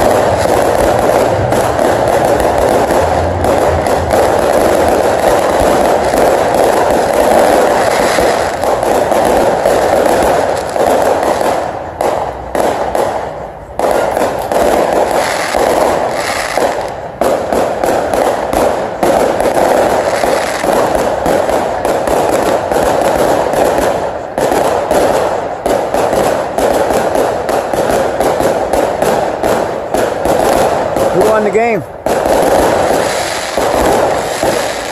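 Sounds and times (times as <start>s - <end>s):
fireworks bangs and crackle: 0.0s - 34.9s.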